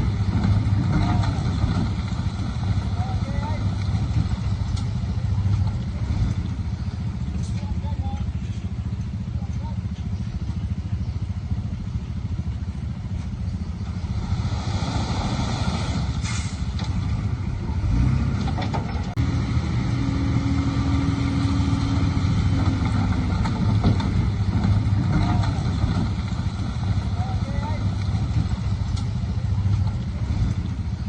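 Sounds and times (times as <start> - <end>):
diesel engine deep rumble: 0.0 - 31.0.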